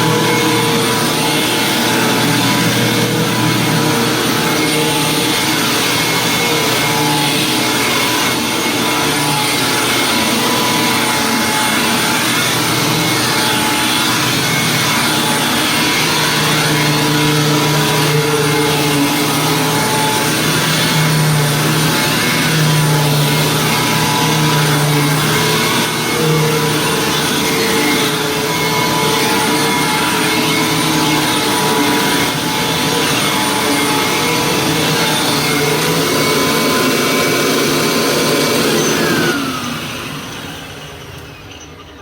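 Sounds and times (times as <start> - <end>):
vacuum cleaner running: 0.0 - 41.8.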